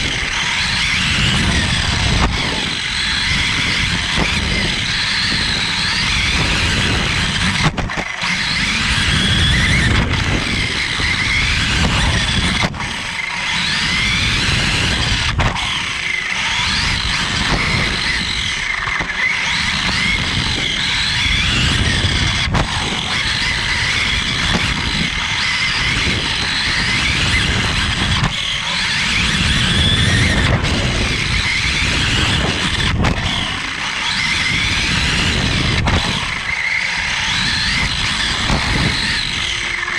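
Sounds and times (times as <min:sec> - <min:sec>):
electric motor whine: 0:00.0 - 0:39.9
tyres rumbling on dirt: 0:00.0 - 0:39.9.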